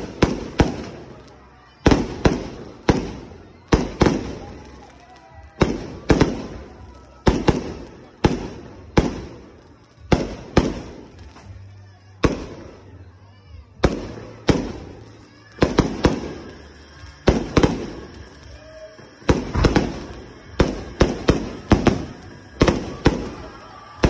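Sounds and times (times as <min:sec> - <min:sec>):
fireworks bursting with echoing bangs: 0:00.0 - 0:13.1, 0:13.7 - 0:24.0.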